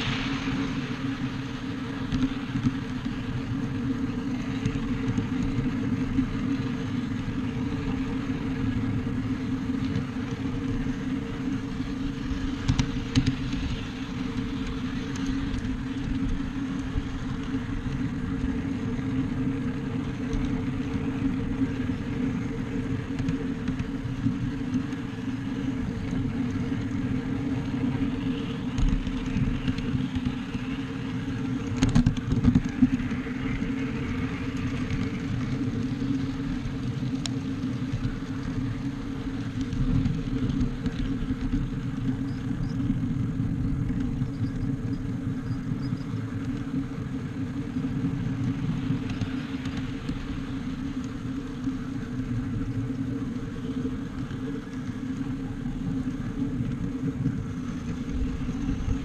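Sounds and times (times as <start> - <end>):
miniature train rumbling on track: 0.0 - 59.0.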